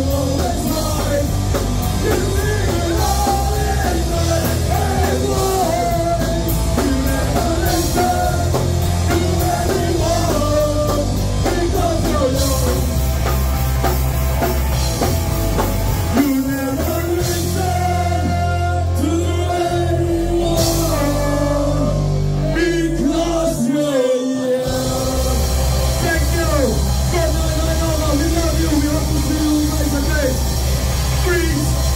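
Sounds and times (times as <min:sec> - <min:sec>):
person singing: 0:00.0 - 0:12.9, 0:16.1 - 0:29.8
drum kit: 0:00.0 - 0:23.5, 0:24.6 - 0:31.9
bass guitar: 0:00.0 - 0:31.9
electric guitars: 0:00.0 - 0:31.9.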